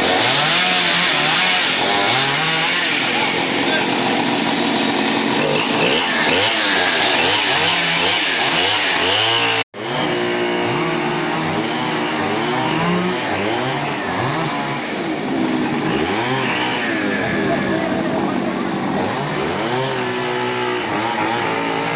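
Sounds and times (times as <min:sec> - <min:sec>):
chainsaw revving: 0:00.0 - 0:21.9.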